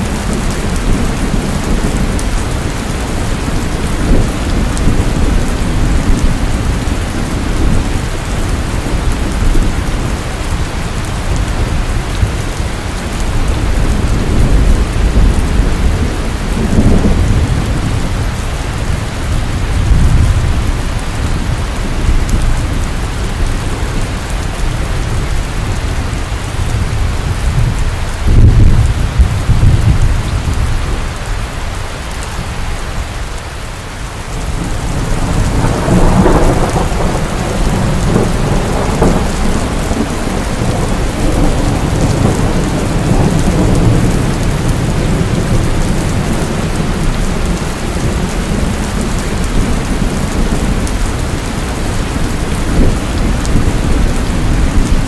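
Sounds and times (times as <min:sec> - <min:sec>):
thunder rumbling: 0:00.0 - 0:33.2, 0:33.8 - 0:55.0
heavy rain: 0:00.0 - 0:55.0.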